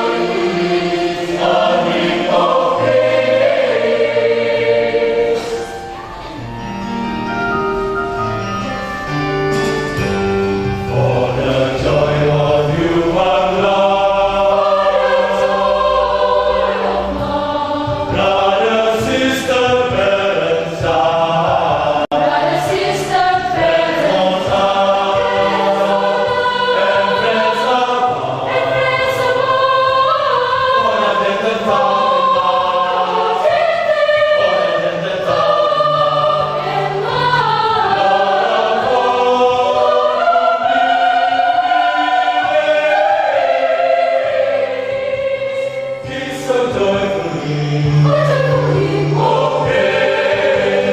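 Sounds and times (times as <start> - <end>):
choir singing in parts: 0.0 - 6.9, 9.5 - 50.9.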